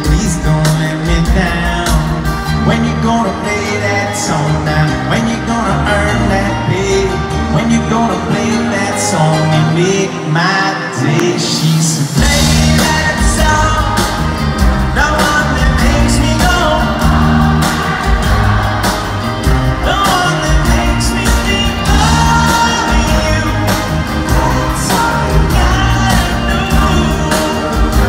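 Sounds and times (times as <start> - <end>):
live pop-rock band: 0.0 - 28.0
man singing lead vocal: 0.0 - 28.0.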